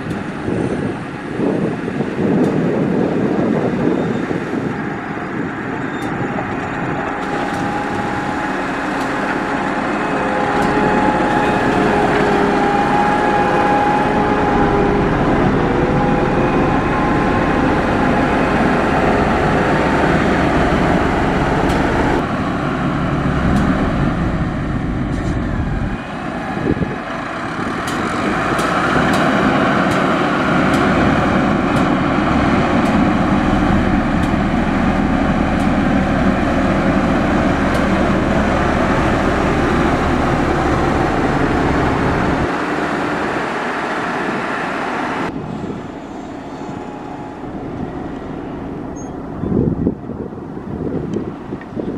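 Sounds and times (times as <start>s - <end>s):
heavy machine diesel engines running: 0.0s - 51.9s.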